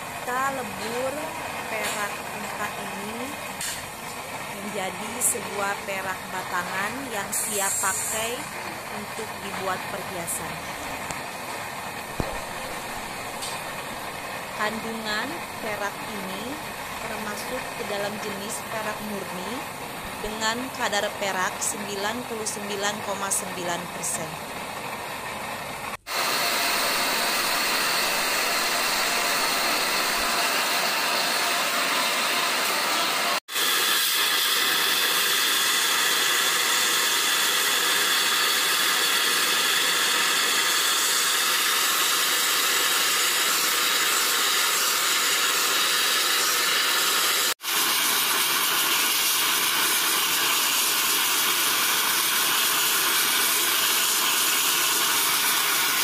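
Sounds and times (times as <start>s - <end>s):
gas torch flame hissing: 0.0s - 21.1s, 25.8s - 56.0s.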